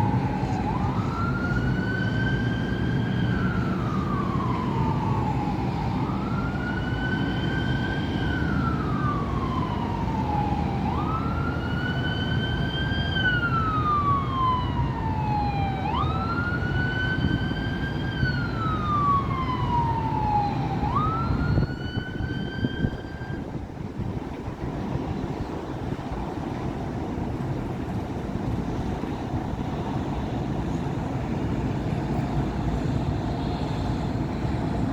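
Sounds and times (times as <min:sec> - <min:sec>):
city traffic rumble: 0:00.0 - 0:34.9
emergency vehicle siren wailing: 0:00.0 - 0:34.9.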